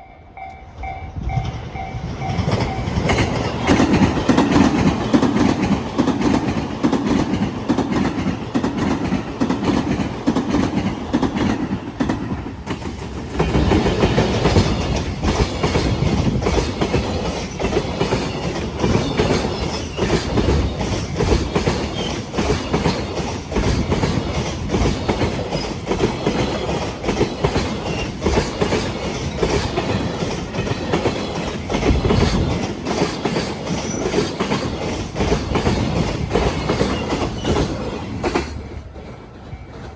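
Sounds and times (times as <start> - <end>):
train wheels clattering over rail joints: 1.3 - 39.9.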